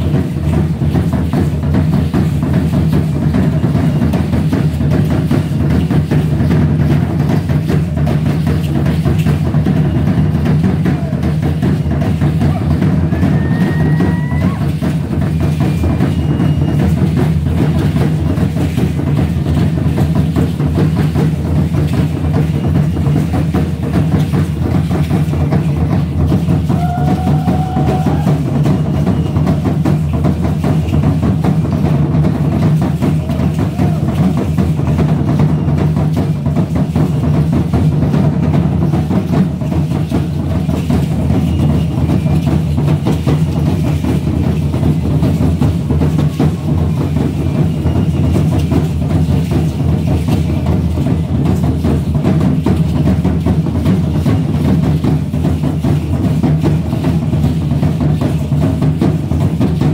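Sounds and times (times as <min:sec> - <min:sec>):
clattering percussion: 0:00.0 - 0:59.9
deep drum beating steady rhythm: 0:00.0 - 0:59.9.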